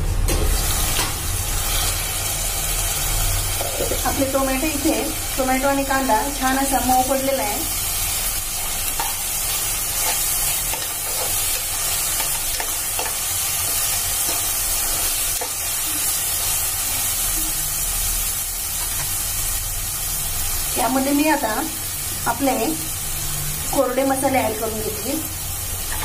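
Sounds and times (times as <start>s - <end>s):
onion sizzling in oil: 0.0s - 26.0s.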